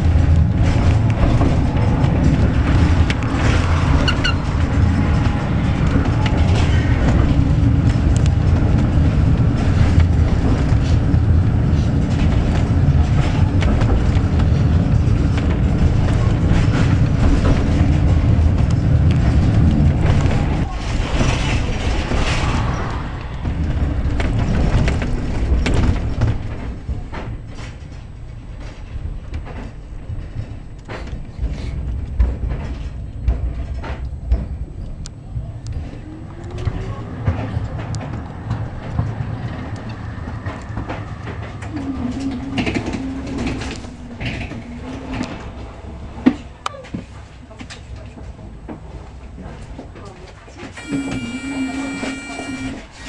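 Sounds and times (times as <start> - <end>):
tram wheels rumbling: 0.0 - 53.0.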